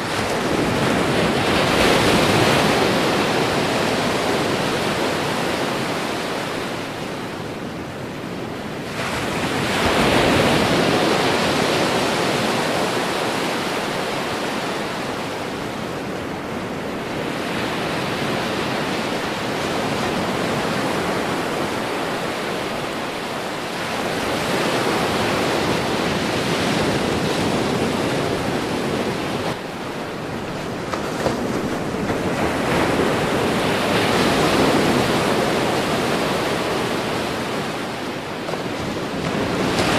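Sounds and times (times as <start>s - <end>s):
ocean waves crashing on beach: 0.0s - 39.9s.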